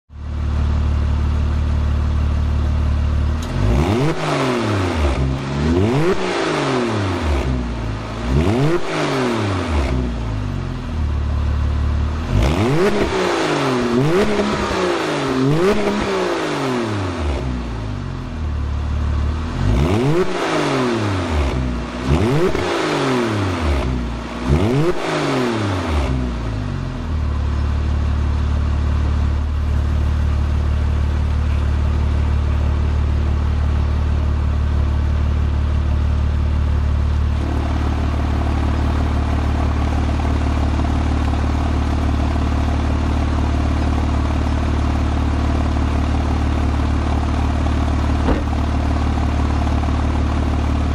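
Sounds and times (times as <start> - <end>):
car engine revving and idling: 0.1 - 50.9.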